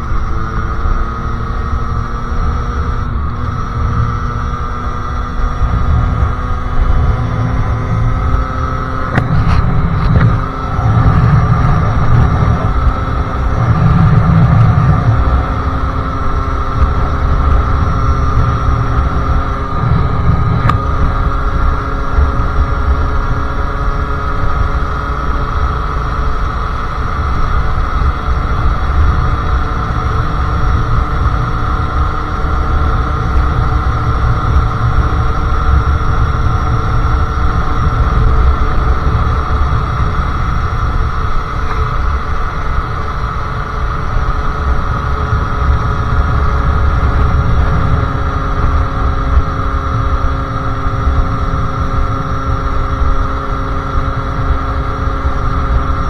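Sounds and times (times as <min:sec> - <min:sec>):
two-stroke motorcycle engine: 0:00.0 - 0:56.0
wind and road rumble: 0:00.0 - 0:56.0.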